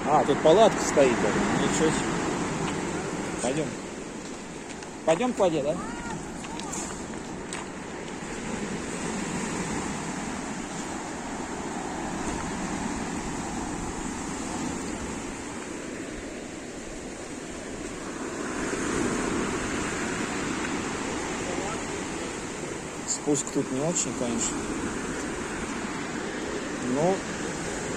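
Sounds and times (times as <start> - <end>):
surf breaking on shore: 0.0 - 27.9
wind buffeting microphone: 0.0 - 27.9.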